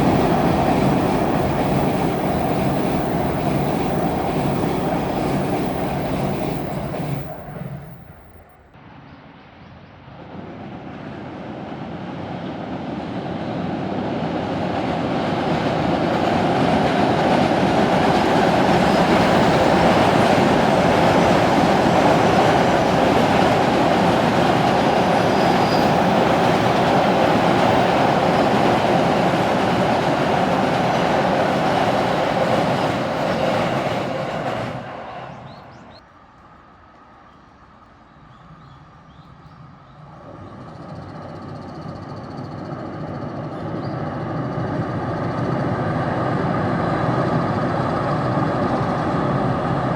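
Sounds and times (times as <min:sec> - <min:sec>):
train crossing steel bridge: 0:00.0 - 0:49.9.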